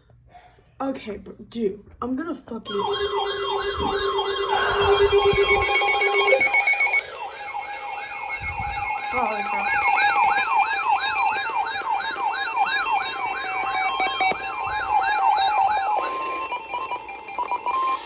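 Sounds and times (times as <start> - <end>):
steady electronic tone: 2.7 - 18.0
wailing electronic alert tone: 2.7 - 18.0.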